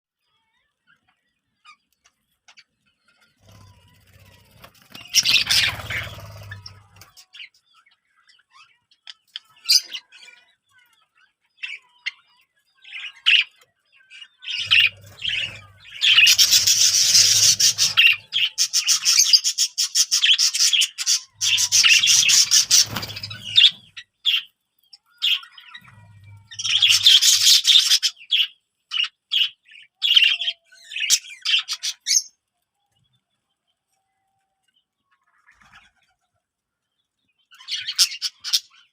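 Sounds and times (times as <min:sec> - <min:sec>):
birds chirping and twittering: 0:00.1 - 0:38.9.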